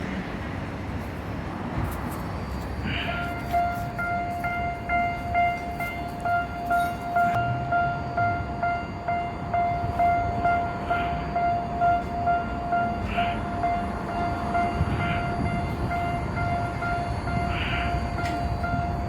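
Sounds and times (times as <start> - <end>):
train rumbling slowly: 0.0 - 19.0
level crossing bell clanging: 3.1 - 19.0.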